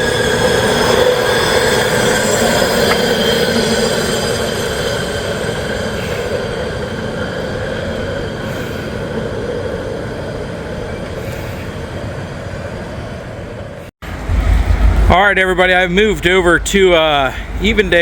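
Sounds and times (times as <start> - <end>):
freight train cars rolling: 0.0 - 18.0
wheels squealing: 0.0 - 18.0.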